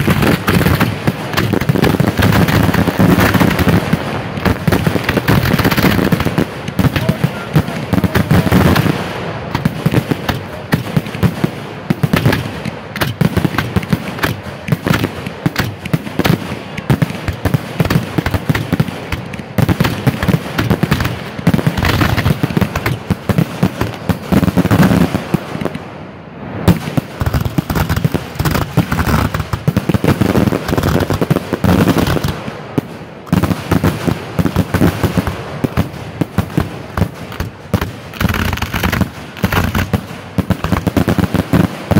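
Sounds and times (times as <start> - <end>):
fireworks launching and bursting: 0.0 - 41.9.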